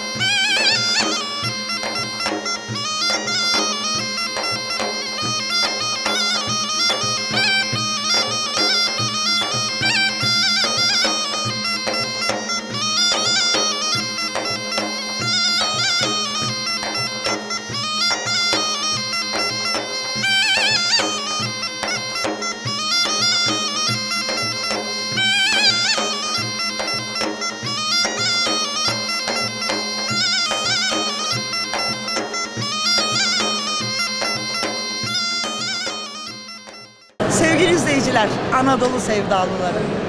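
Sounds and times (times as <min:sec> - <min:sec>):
wind instrument melody: 0:00.0 - 0:38.5.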